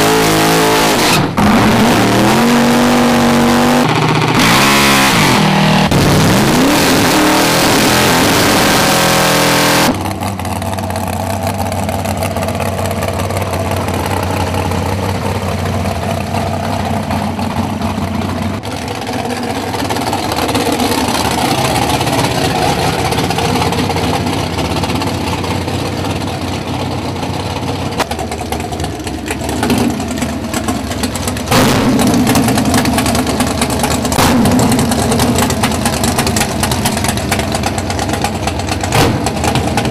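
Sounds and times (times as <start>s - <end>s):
drag racing car engines revving: 0.0s - 39.9s.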